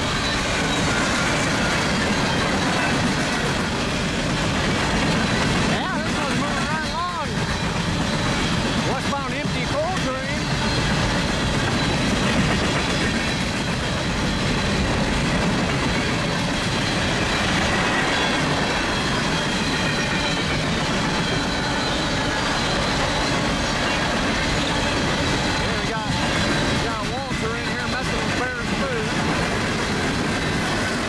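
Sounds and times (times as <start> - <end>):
freight train cars rolling past: 0.0 - 31.0
wheel squeal: 0.0 - 31.0.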